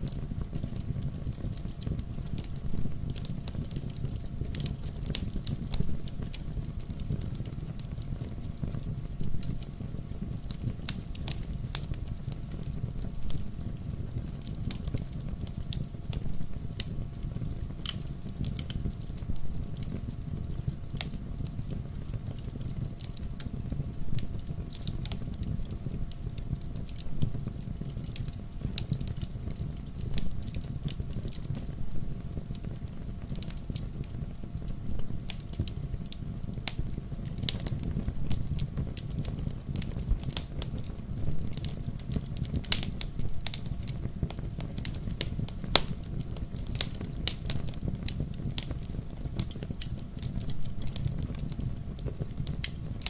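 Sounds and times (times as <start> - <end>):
bonfire flame rumble: 0.0 - 53.0
fire crackling and popping: 0.0 - 53.0.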